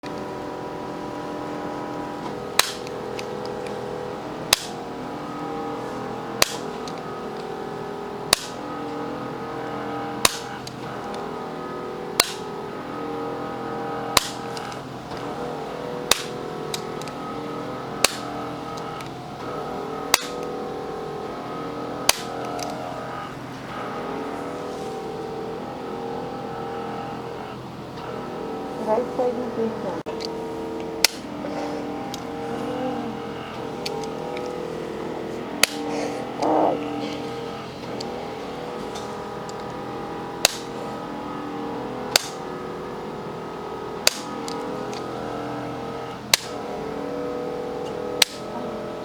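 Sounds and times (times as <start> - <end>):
background music with held notes: 0.0 - 49.0.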